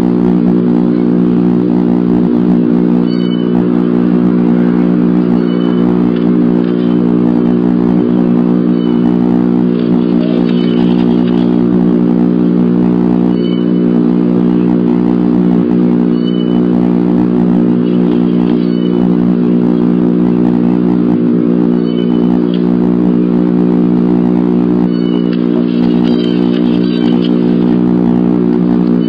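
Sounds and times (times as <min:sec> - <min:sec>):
steady electrical hum: 0:00.0 - 0:29.0
faint high peeps: 0:02.5 - 0:12.1, 0:12.9 - 0:23.2, 0:23.9 - 0:29.0.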